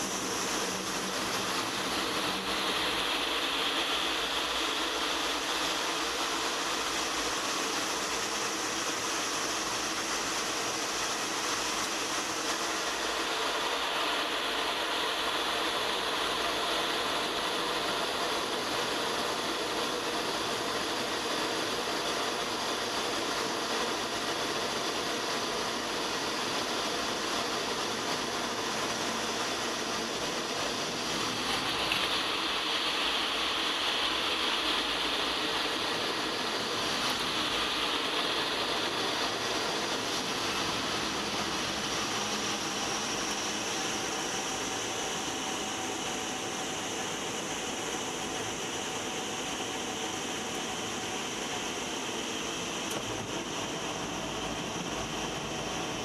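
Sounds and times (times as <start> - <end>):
airflow rush: 0.0 - 56.0
jet engine noise: 0.0 - 56.0.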